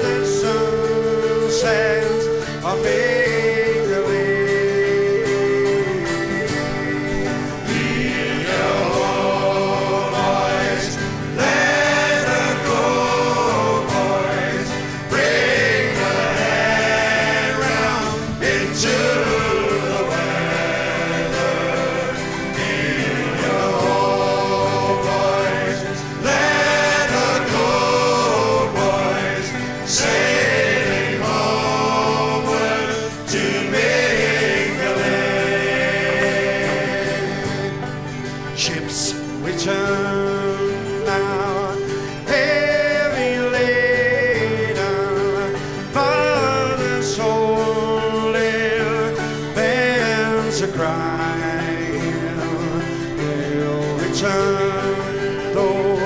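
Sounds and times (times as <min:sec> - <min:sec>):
music with singing voices: 0:00.0 - 0:56.0.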